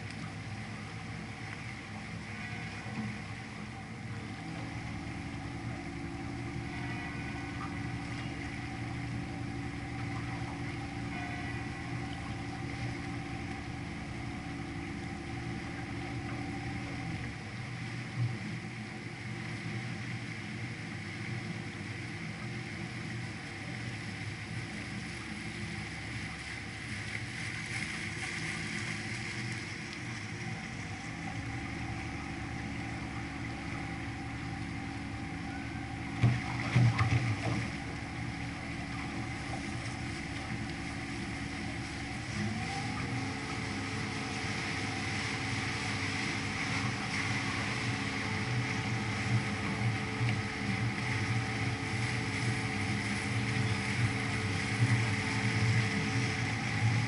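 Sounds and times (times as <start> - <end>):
boat engine running: 0.0 - 57.0
rushing water and air: 0.0 - 57.0.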